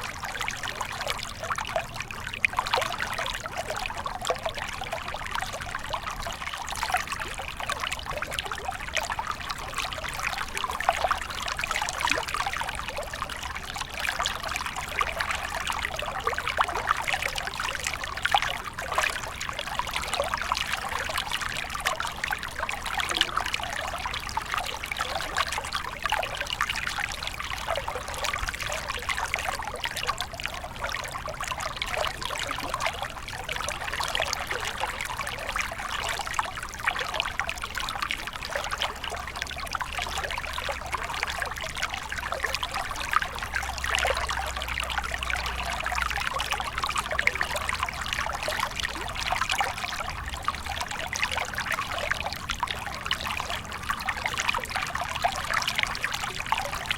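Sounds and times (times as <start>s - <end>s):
stream trickling over stones: 0.0s - 56.9s.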